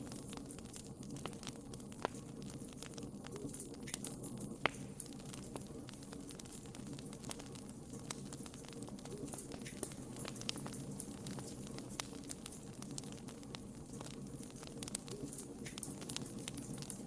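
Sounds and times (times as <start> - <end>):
hiss of flames: 0.0 - 17.0
wood fire crackling and popping: 0.0 - 17.0.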